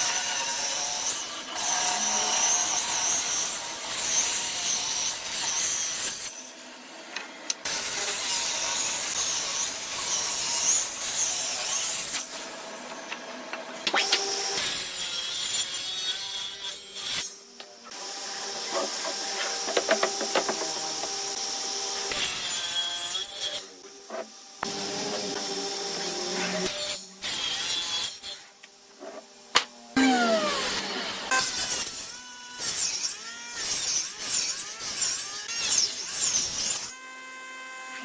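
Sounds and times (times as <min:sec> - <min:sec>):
woodworking tools cutting wood: 0:00.0 - 0:38.0.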